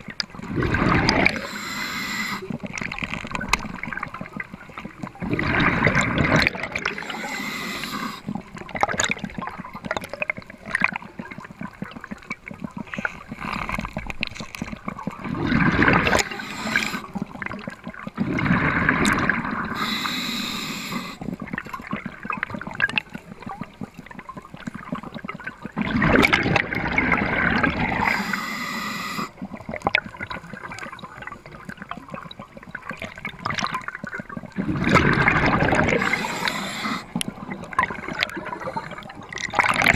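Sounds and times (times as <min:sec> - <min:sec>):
muffled underwater rushing: 0:00.1 - 0:39.9.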